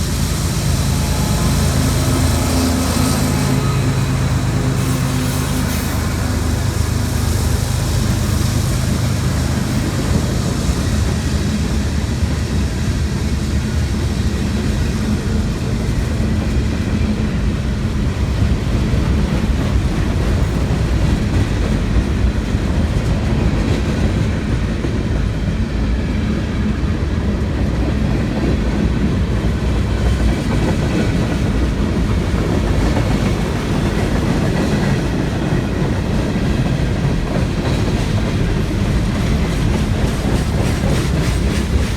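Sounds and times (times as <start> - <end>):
freight train wheels rumbling on rails: 0.0 - 41.9.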